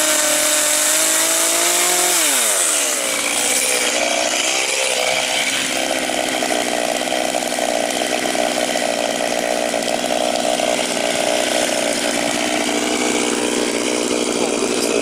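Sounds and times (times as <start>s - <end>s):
chainsaw engine idling: 0.0s - 15.0s.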